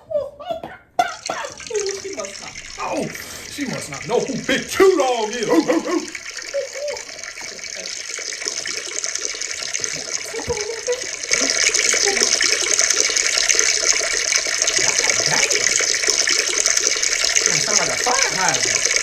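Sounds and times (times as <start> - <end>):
water running: 1.0 - 19.0.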